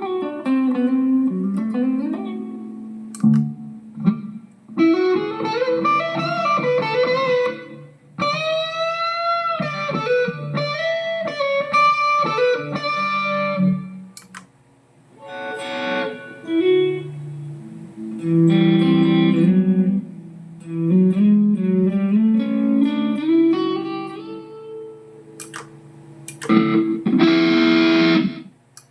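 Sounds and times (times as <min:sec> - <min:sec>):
electric guitar: 0:00.0 - 0:14.4, 0:15.1 - 0:28.6.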